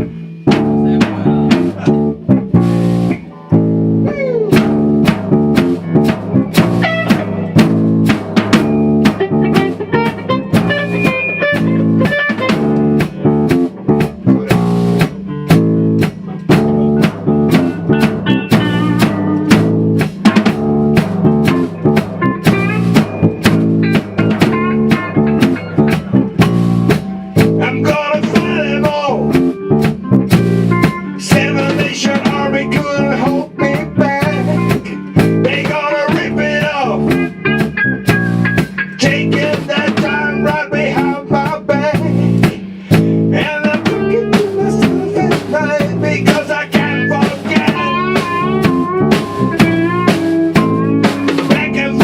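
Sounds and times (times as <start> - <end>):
bass guitar: 0.0 - 52.0
drum kit beat: 0.0 - 52.0
guitar: 0.0 - 52.0.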